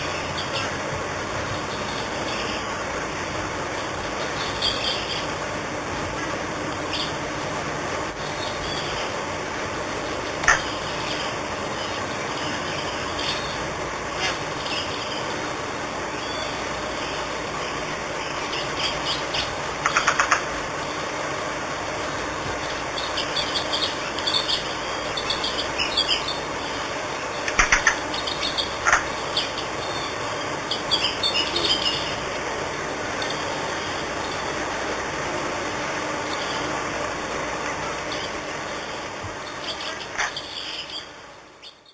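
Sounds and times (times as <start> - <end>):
steady noisy background: 0.0 - 41.9.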